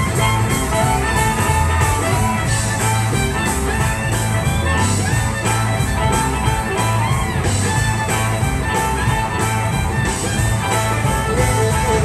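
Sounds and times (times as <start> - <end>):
drum kit: 0.0 - 12.0
electric guitar: 0.0 - 12.0
fiddle: 0.0 - 12.0
low-end groove: 0.0 - 12.0.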